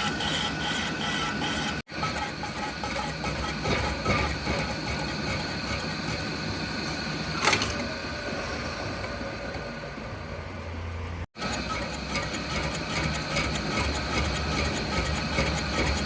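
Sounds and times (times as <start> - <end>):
workshop machinery humming: 0.0 - 16.0.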